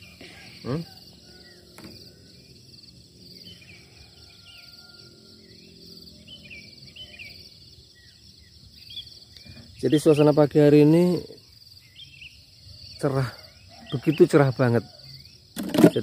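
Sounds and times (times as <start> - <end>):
birds chirping: 0.0 - 16.0
insects trilling: 0.0 - 16.0.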